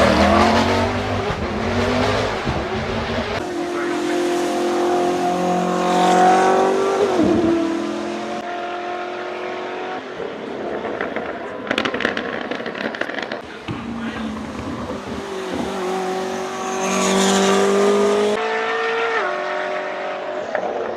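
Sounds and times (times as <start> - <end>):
sports car accelerating hard: 0.0 - 20.9.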